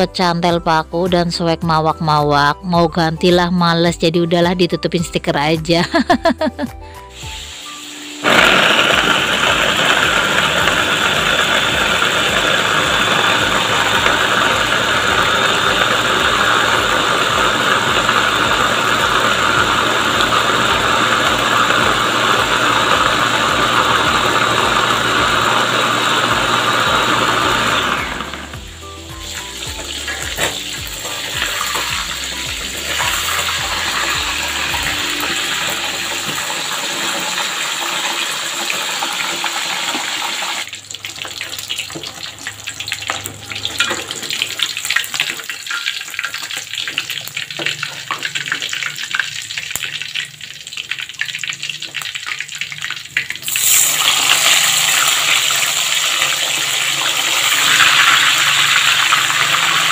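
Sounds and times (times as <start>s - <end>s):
fish sizzling in hot oil: 5.8s - 59.9s.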